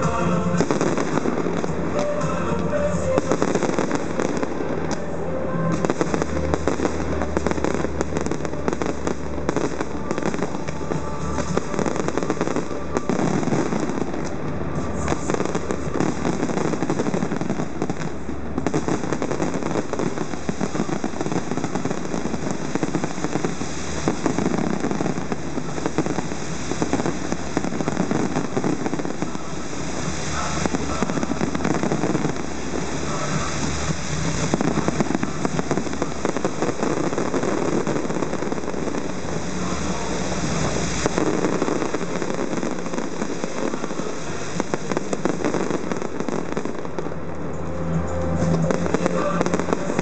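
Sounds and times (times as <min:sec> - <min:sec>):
fireworks bursting and crackling: 0:00.0 - 0:50.0
music: 0:00.0 - 0:50.0.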